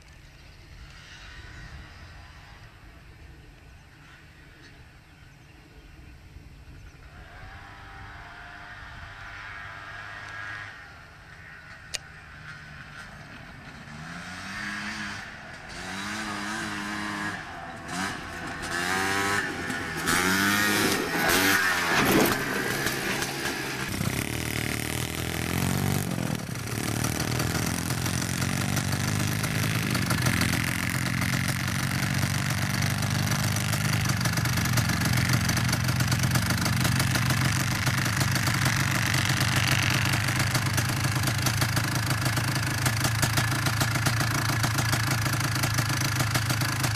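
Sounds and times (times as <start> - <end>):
atv engine revving: 7.4 - 46.9.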